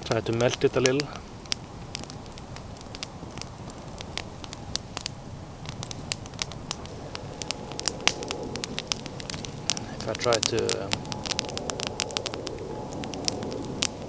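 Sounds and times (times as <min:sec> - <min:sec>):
campfire crackling and popping: 0:00.0 - 0:14.0
hiss of flames: 0:00.0 - 0:14.0.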